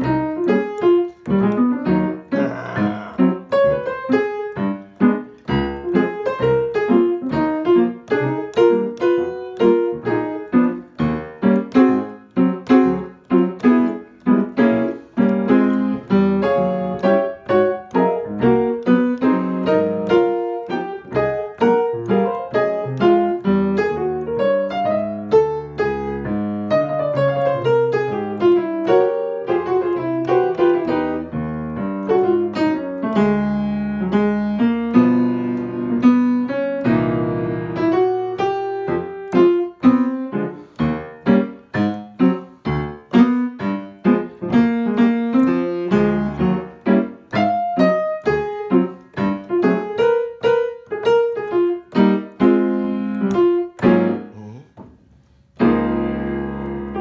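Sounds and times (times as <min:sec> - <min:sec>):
solo jazz piano: 0:00.0 - 0:57.0.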